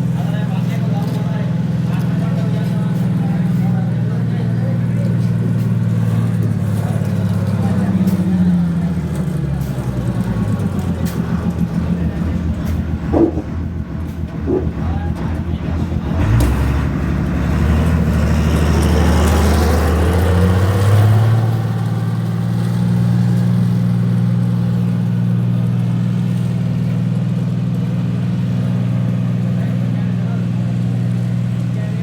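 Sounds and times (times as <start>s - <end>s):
diesel road roller engine droning: 0.0s - 32.0s
engine knock: 0.0s - 32.0s.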